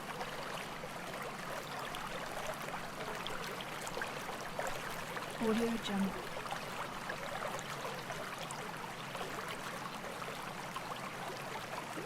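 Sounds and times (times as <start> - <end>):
stream water babbling: 0.0 - 12.0.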